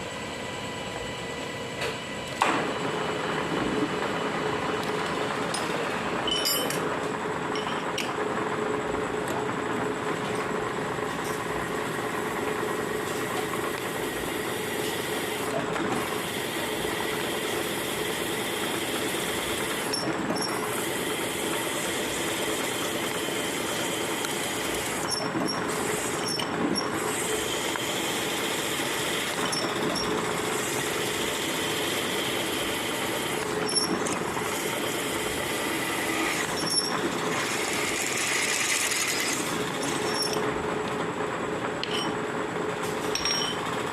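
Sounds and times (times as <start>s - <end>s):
milling machine running: 0.0s - 43.9s.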